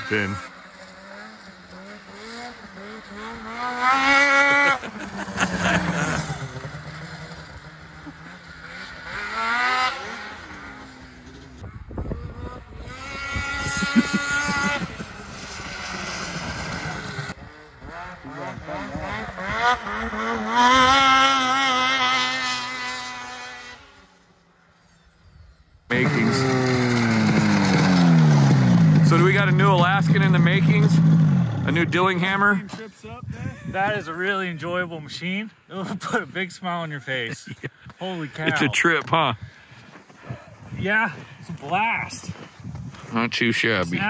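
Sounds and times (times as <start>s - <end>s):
snowmobile engine revving: 0.0s - 24.4s, 25.9s - 39.7s.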